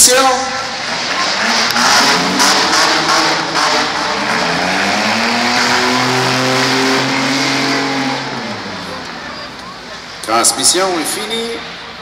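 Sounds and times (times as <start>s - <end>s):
car engine revving: 0.6s - 10.3s.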